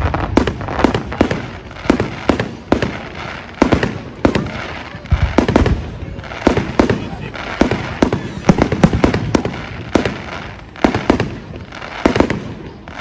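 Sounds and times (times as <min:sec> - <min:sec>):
firework crackle: 0:00.0 - 0:13.0.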